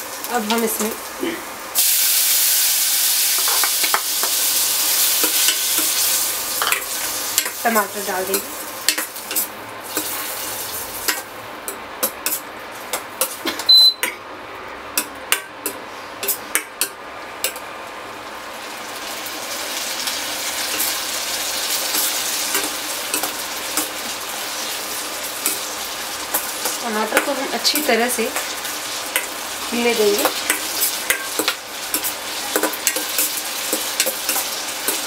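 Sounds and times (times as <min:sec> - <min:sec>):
tomatoes sizzling in butter: 0:00.0 - 0:11.4, 0:17.5 - 0:35.0.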